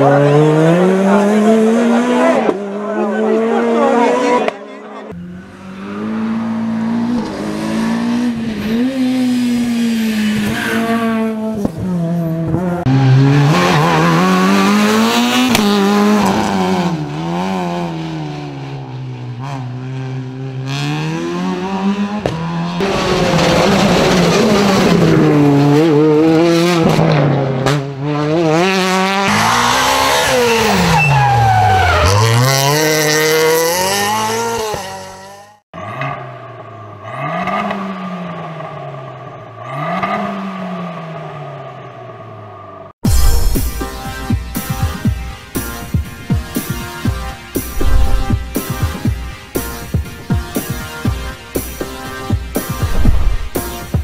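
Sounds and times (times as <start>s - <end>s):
rally car engines revving: 0.0s - 42.9s, 45.6s - 49.9s, 50.5s - 54.0s.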